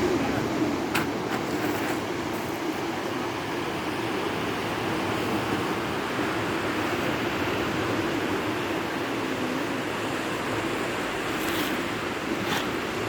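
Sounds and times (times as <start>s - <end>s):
sea surf washing on beach: 0.0s - 13.0s.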